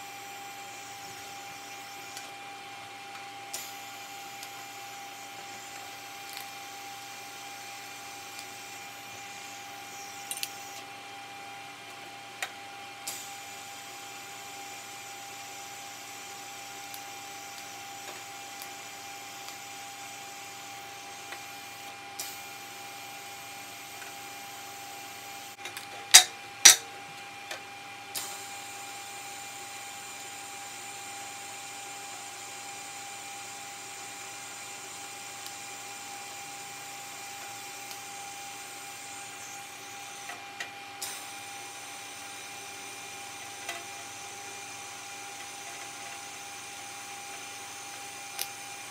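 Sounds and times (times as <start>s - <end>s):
welding arc hissing with whine: 0.0s - 48.9s.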